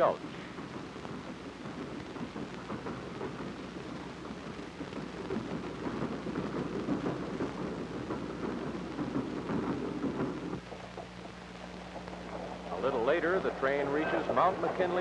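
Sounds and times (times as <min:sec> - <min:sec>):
film soundtrack crackle: 0:00.0 - 0:15.0
train rumbling on rails: 0:00.0 - 0:15.0.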